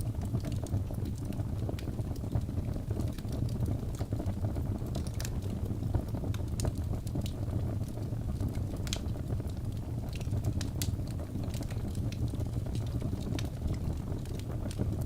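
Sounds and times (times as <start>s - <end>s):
fire crackles and pops: 0.0s - 15.0s
wood logs burning: 0.0s - 15.0s.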